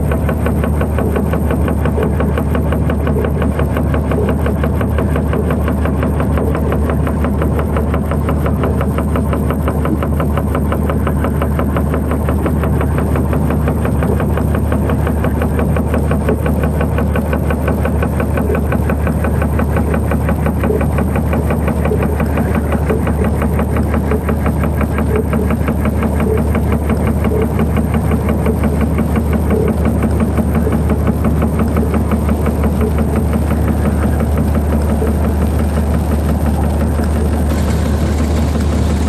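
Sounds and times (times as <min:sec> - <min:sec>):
dark ambient drone music: 0:00.0 - 0:39.0.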